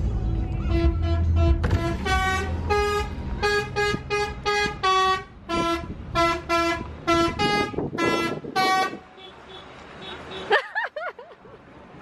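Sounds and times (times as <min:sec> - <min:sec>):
bus musical horn tune: 0:00.6 - 0:10.5.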